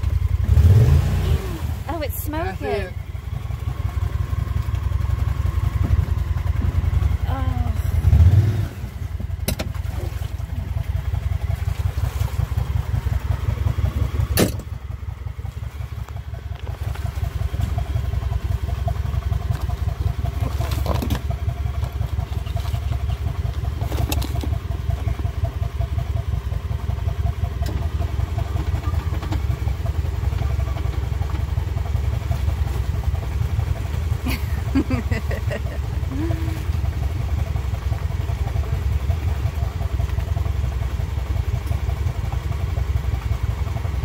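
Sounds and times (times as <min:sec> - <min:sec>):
utility vehicle engine droning: 0:00.0 - 0:44.0.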